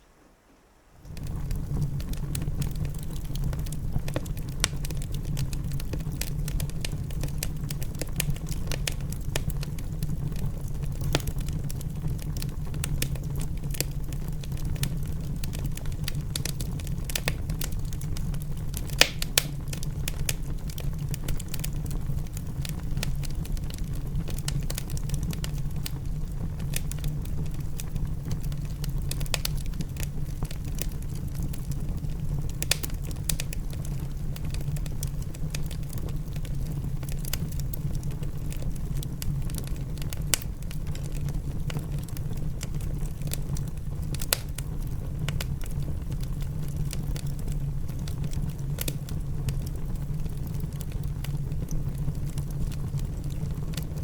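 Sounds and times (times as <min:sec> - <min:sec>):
wood fire crackling: 0:01.0 - 0:54.0.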